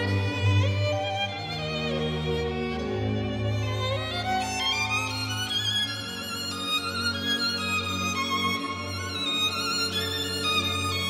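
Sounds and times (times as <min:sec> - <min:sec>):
solo violin: 0:00.0 - 0:11.0
string orchestra low notes: 0:00.0 - 0:11.0.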